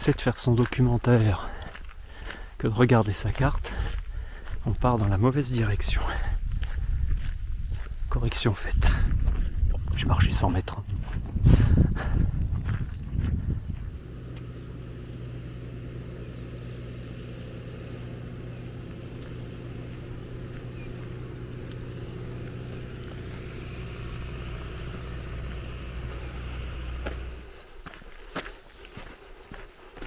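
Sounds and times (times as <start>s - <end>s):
low mechanical hum: 1.3s - 29.7s.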